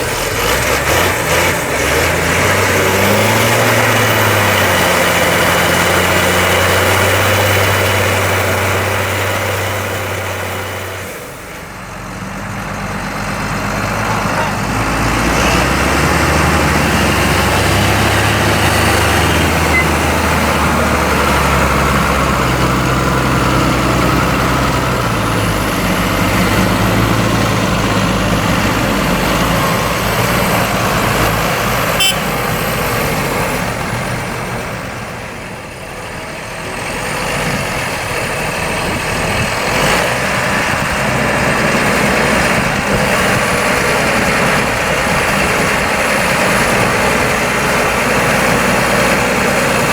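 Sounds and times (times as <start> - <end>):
harvester machinery noise: 0.0 - 49.9
tractor engine running: 0.0 - 49.9.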